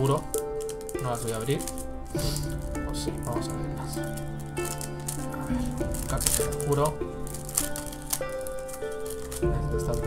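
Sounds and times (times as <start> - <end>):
light shaker percussion: 0.0 - 10.0.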